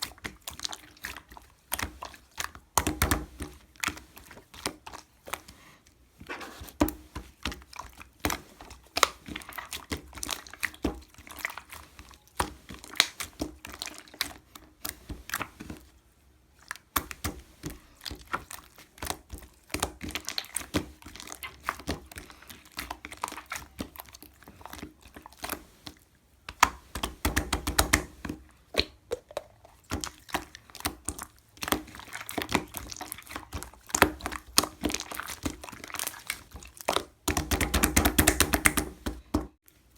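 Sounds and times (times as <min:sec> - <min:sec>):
slime squished by hand: 0:00.0 - 0:05.6, 0:06.6 - 0:15.9, 0:16.6 - 0:39.5.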